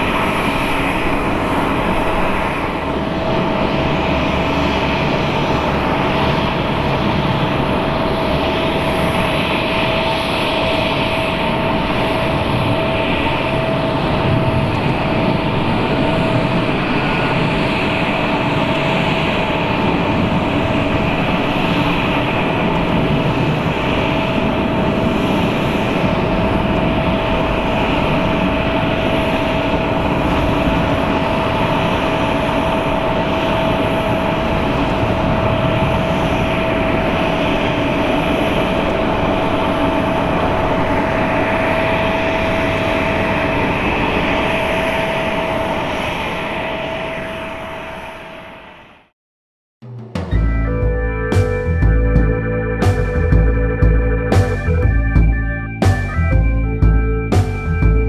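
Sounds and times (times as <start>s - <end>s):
jet engine roar: 0.0s - 49.1s, 50.3s - 58.0s.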